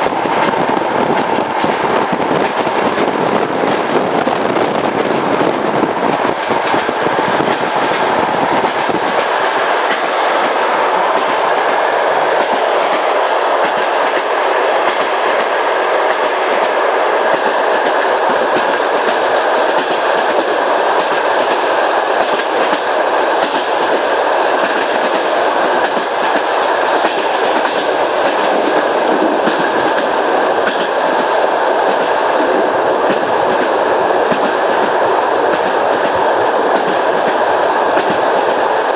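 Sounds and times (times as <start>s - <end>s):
train rushing rumble: 0.0s - 38.9s
train wheels clicking over joints: 0.0s - 38.9s.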